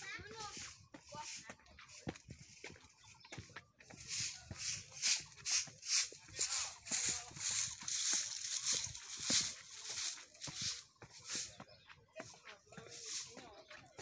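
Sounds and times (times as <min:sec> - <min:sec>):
footsteps on concrete stairs: 0:00.0 - 0:14.0.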